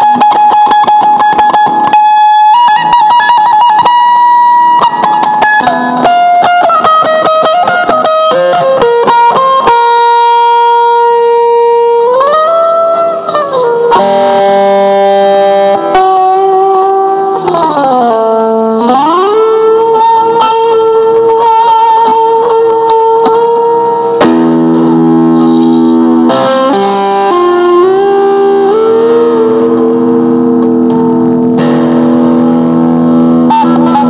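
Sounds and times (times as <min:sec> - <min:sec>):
electric guitar with note bends: 0:00.0 - 0:34.0.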